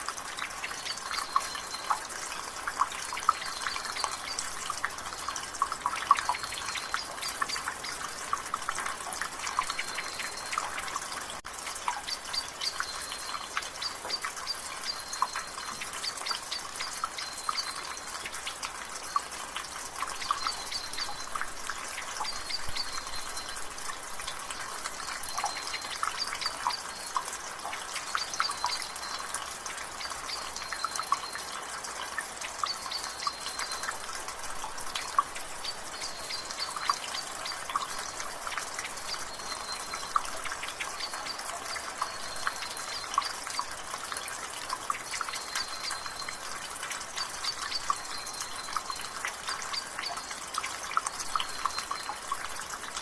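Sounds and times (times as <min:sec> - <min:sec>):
water dripping from gutter: 0:00.0 - 0:53.0.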